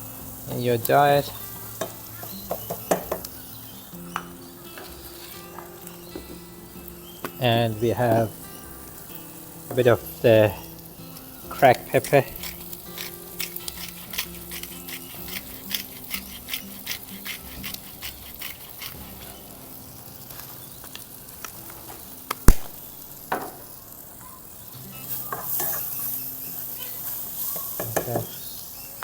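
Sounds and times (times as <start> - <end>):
onion and garlic sizzling in oil: 0.0 - 29.0.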